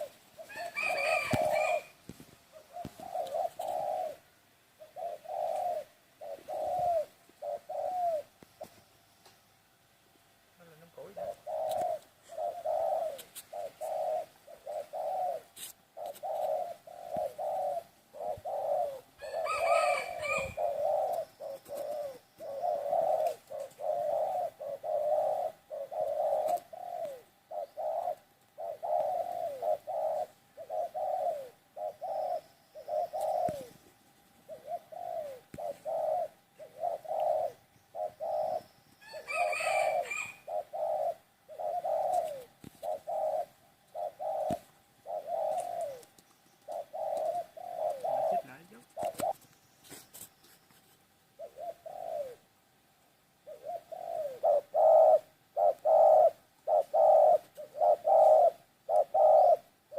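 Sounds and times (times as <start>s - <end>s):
high-pitched dove calls: 0.0s - 9.2s, 10.6s - 52.6s, 53.4s - 59.9s
doves cooing: 0.0s - 59.9s.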